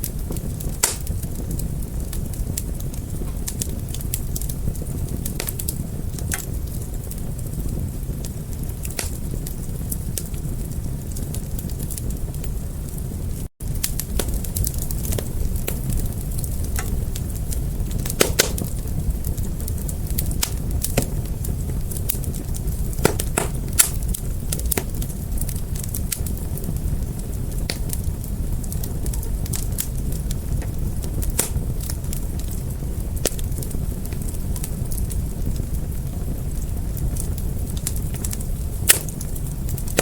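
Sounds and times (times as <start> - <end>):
low rumble of flames: 0.0 - 40.0
wood fire crackling: 0.0 - 40.0.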